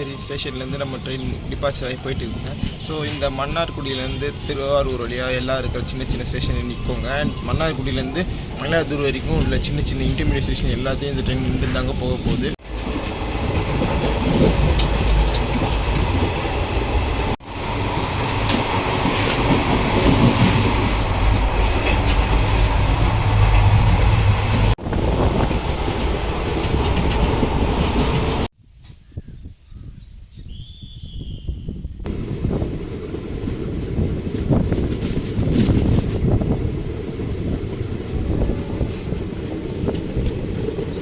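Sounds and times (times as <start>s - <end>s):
train wheels rumbling on rails: 2.3s - 28.5s, 32.1s - 41.0s.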